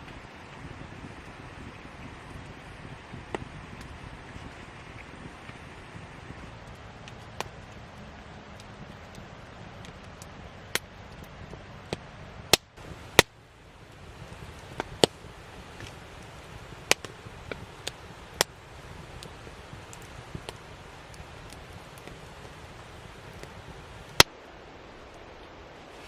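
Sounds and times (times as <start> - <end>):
campfire crackling and popping: 0.0 - 26.0
fire low hiss: 0.0 - 26.0.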